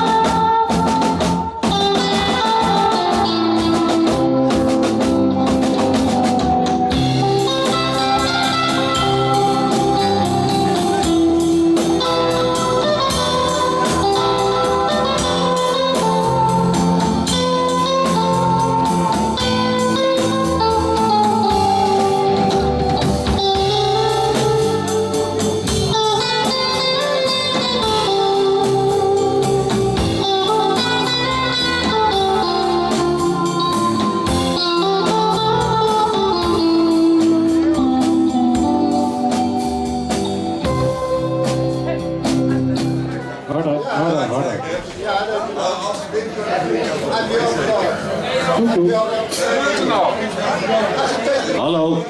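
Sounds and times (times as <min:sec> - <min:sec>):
drum kit: 0:00.0 - 0:43.6
electric guitar lead: 0:00.0 - 0:43.6
bass guitar: 0:00.0 - 0:44.9.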